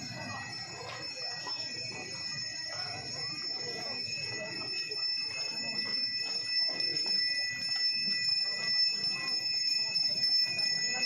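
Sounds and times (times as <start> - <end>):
bell ringing: 0.0 - 11.0
murmur of voices: 0.0 - 11.0.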